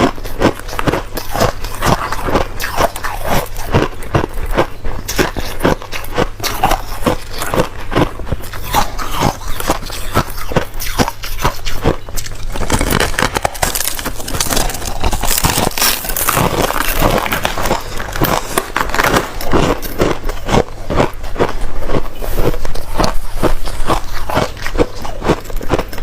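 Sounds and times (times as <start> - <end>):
ice crunching while chewed: 0.0 - 26.0.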